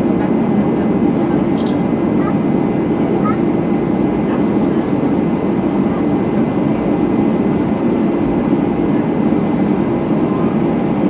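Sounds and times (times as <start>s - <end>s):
jet engines rumbling: 0.0s - 11.0s
cabin airflow: 1.4s - 11.0s.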